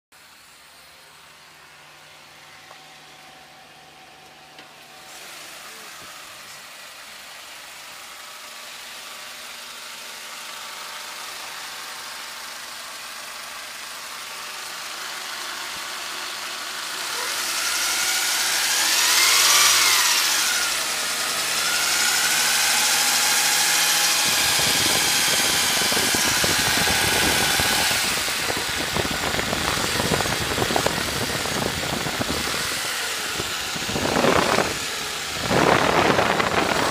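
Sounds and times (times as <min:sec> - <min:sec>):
car engine revving with whine: 0:00.1 - 0:36.9.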